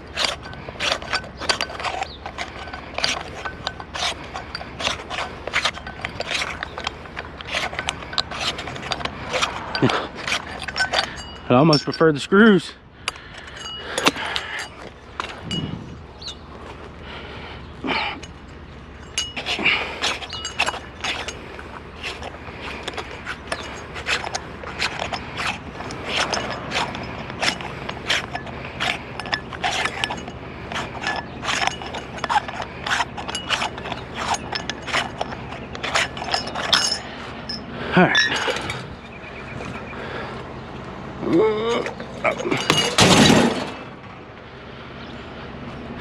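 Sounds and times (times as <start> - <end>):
metallic clicks and scrapes: 0.0 - 12.3, 13.0 - 16.8, 18.0 - 39.9.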